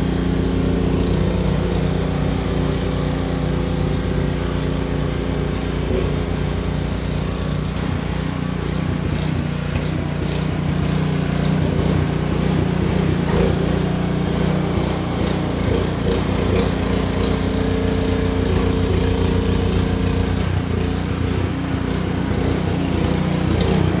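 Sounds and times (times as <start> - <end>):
snowblower engine running: 0.0 - 24.0.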